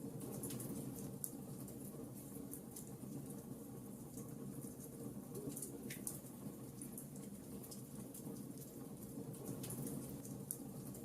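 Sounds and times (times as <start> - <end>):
wood crackling and popping: 0.0 - 11.0.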